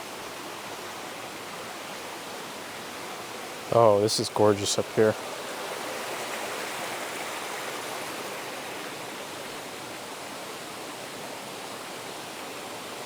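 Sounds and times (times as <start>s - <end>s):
stream over rocky cascades: 0.0s - 13.0s.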